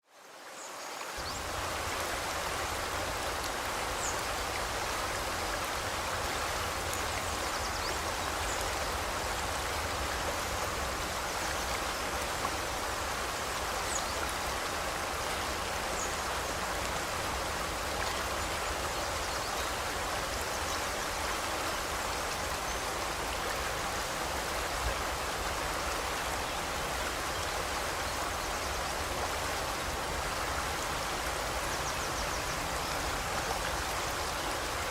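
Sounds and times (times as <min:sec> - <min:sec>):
river rushing: 0:00.1 - 0:34.9.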